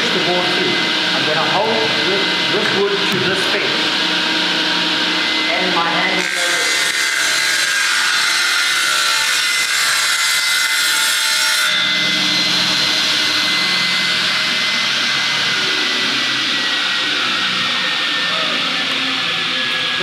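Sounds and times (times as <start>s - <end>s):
panel saw cutting wood: 0.0s - 20.0s
saw blade spinning whine: 0.0s - 20.0s.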